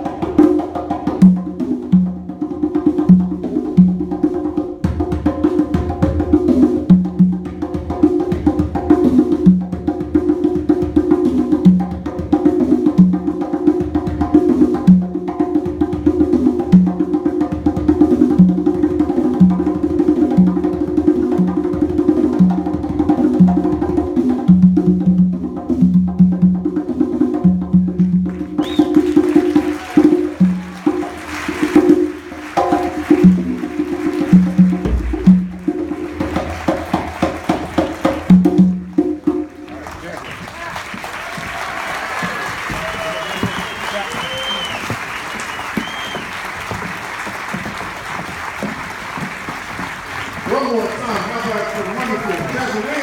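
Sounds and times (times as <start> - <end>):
conga drums played by hand: 0.0 - 40.0, 42.2 - 45.0, 45.7 - 50.6.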